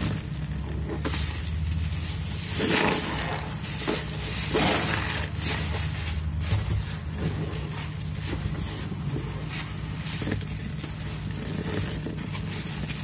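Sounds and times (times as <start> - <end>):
steady low hum: 0.0 - 13.0
wet sponge squelches: 0.0 - 13.0.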